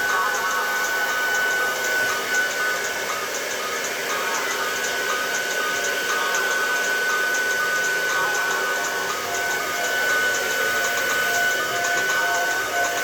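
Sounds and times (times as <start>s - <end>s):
hair dryer blowing with whine: 0.0s - 13.0s.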